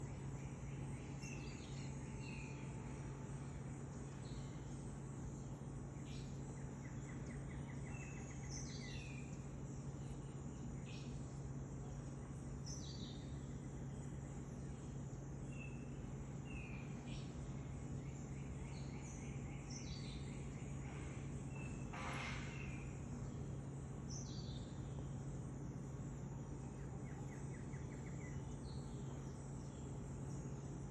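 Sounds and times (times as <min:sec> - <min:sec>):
birds calling faintly: 0:00.0 - 0:30.9
steady low hum: 0:00.0 - 0:30.9.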